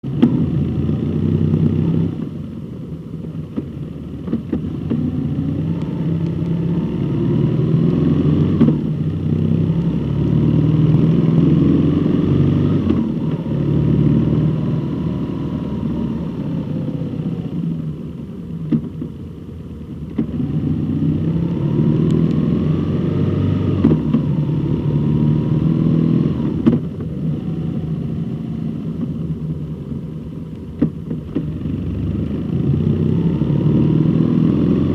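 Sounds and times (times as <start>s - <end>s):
vehicle engine accelerating: 0.0s - 2.3s, 4.2s - 18.1s, 20.1s - 30.0s, 31.2s - 34.9s
steady low rumble: 0.0s - 33.3s.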